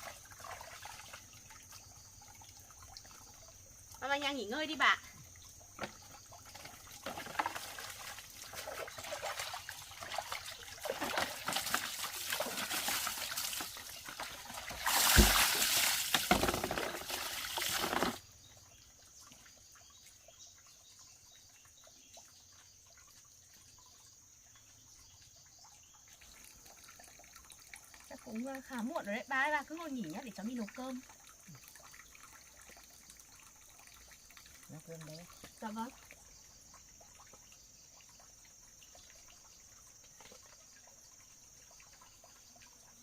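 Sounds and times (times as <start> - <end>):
water trickling and pouring: 0.0 - 43.0.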